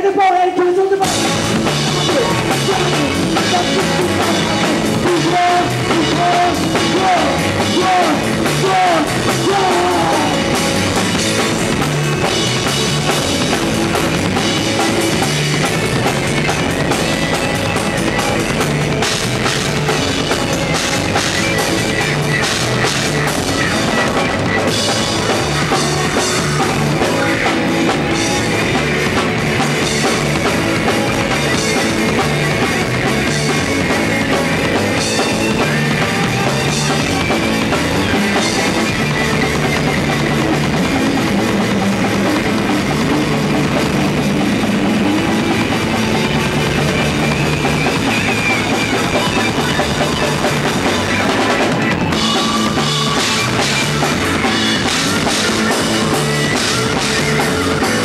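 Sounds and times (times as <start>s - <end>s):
bass guitar: 0.0s - 58.0s
electric guitars: 0.0s - 58.0s
drum kit with cymbals: 0.9s - 58.0s.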